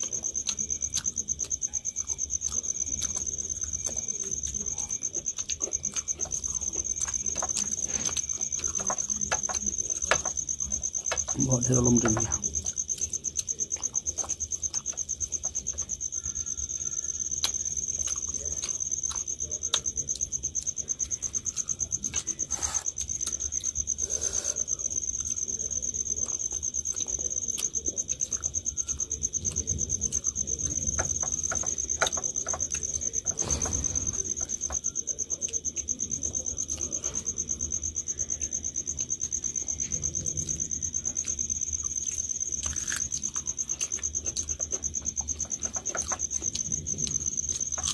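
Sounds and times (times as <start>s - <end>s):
crickets trilling: 0.0s - 47.9s.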